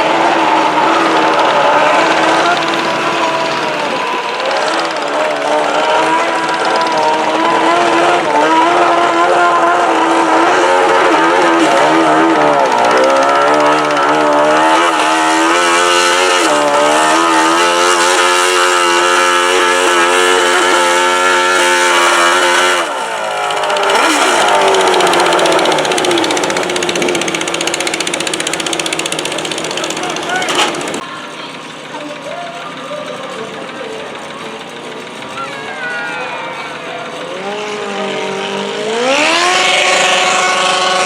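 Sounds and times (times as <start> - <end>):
tractor engine revving hard: 0.0 - 41.0.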